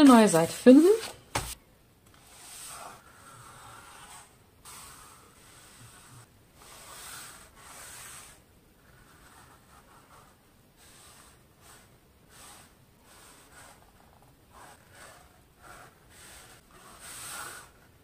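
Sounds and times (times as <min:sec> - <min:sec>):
pen scratching on paper: 0:02.1 - 0:17.9.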